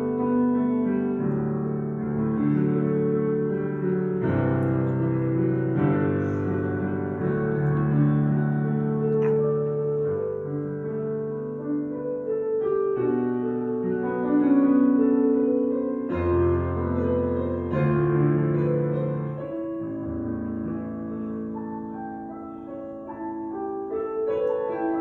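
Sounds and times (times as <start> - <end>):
slow solo piano chords: 0.0 - 25.0.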